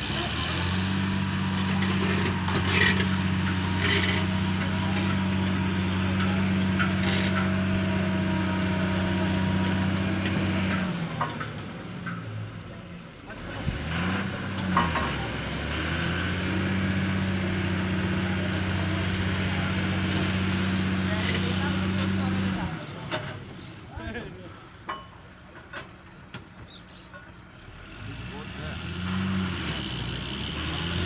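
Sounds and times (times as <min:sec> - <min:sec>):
diesel truck engine under load: 0:00.0 - 0:31.0.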